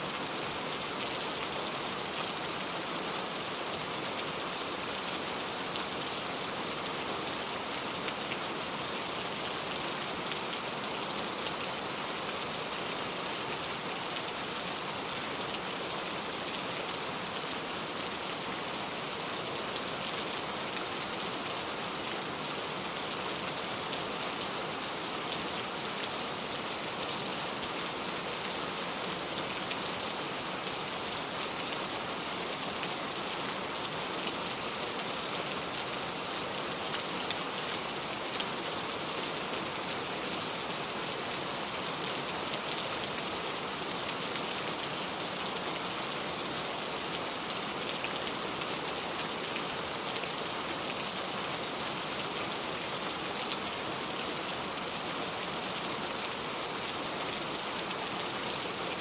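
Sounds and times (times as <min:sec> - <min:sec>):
heavy pouring rain: 0:00.0 - 0:59.0.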